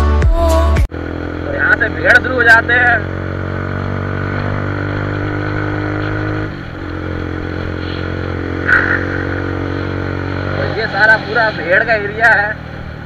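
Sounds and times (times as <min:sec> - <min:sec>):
motorcycle engine running: 0:00.3 - 0:13.0.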